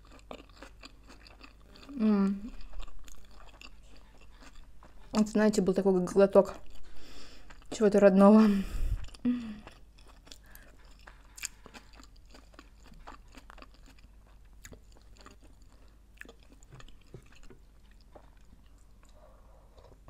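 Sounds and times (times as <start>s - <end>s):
person chewing food: 0.0s - 5.4s, 6.5s - 7.8s, 8.6s - 20.0s.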